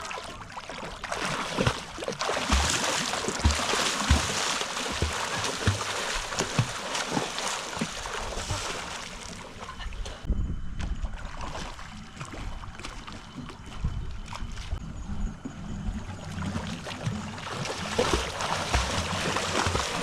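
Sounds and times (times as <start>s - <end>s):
water splashing and churning: 0.0s - 10.3s, 11.0s - 14.8s, 16.0s - 20.0s.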